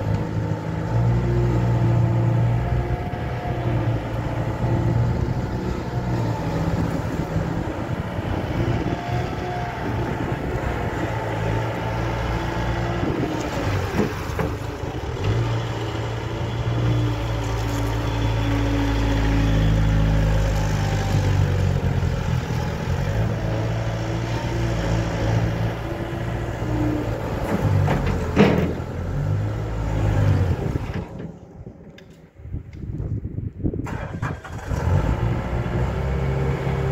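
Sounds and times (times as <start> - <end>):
loader diesel engine revving: 0.0 - 31.7, 33.8 - 36.9.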